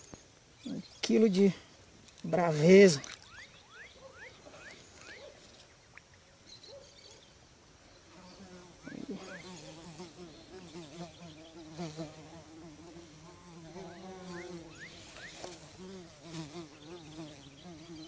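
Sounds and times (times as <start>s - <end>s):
insect buzzing: 2.3s - 18.0s.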